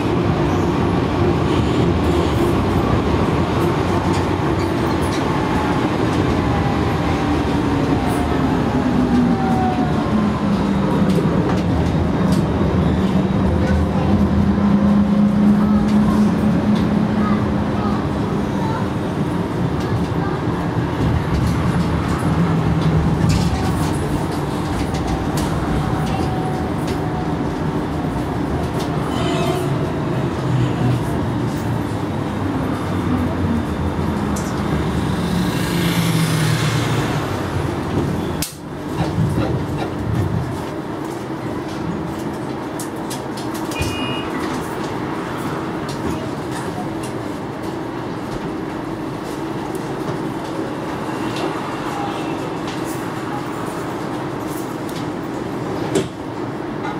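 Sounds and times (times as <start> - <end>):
tram running on rails: 0.0 - 56.9.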